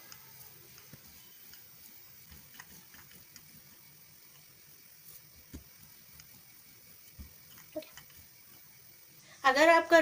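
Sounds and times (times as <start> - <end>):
rolling pin rubbing on dough: 0.2 - 8.9.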